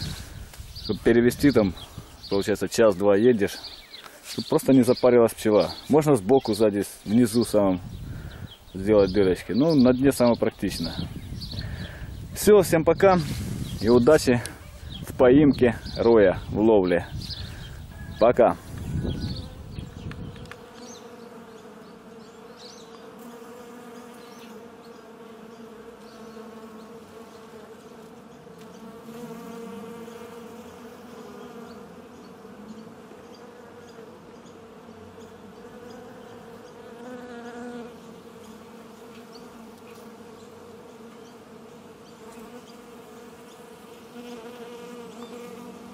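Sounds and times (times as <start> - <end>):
bees buzzing: 0.0 - 45.9.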